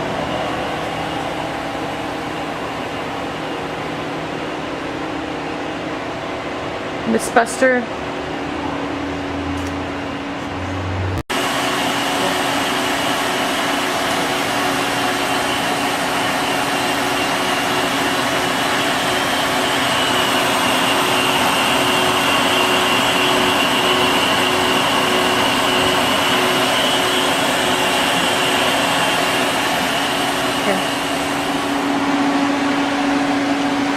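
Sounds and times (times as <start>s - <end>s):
machine fan whirring: 0.0s - 33.9s.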